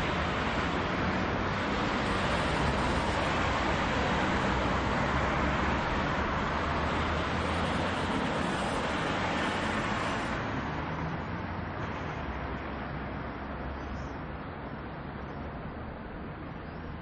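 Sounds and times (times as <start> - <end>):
passing cars: 0.0 - 17.0.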